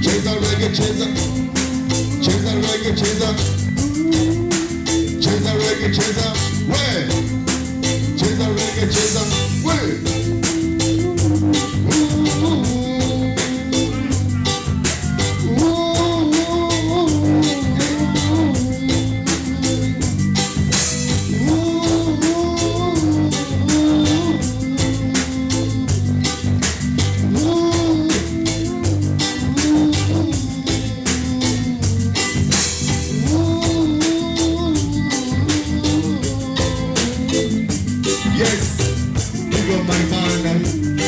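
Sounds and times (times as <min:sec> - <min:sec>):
reggae music: 0:00.0 - 0:41.0.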